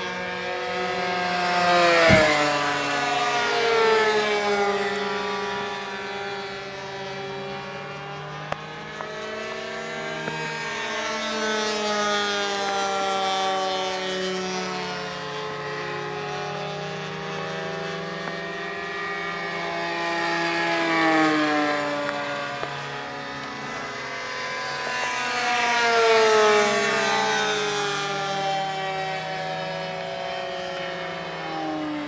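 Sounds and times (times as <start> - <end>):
model airplane engines droning: 0.0 - 32.0.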